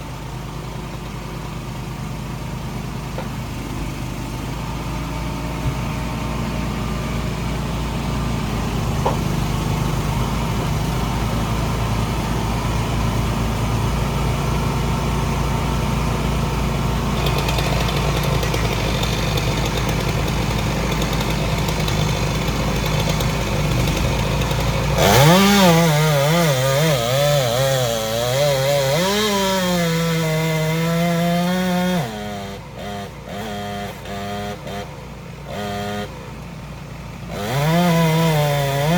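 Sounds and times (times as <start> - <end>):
engine running and revving: 0.0 - 38.9.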